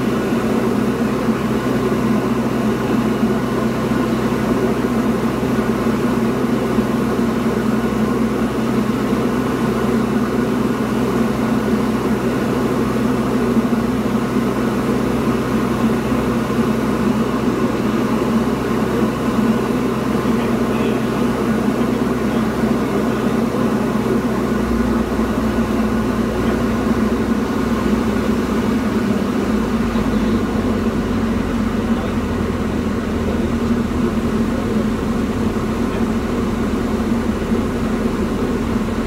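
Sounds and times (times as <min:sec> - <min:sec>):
airplane engine droning: 0:00.0 - 0:39.0.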